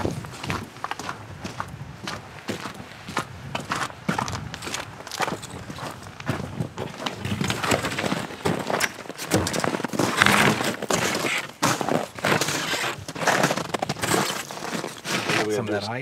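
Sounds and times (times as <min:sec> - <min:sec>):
footsteps crunching through snow: 0:00.0 - 0:16.0.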